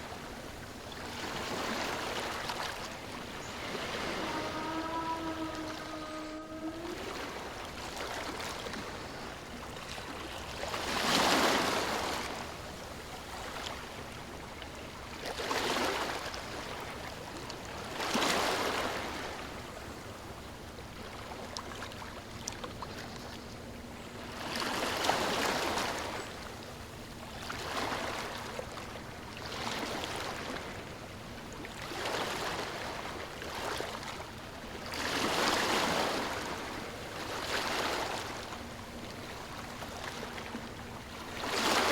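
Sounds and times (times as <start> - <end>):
ocean waves washing ashore: 0.0 - 19.9, 27.4 - 41.9.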